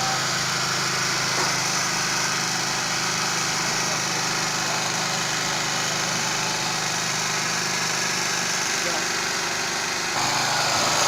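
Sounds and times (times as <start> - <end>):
small generator engine running: 0.0 - 11.0.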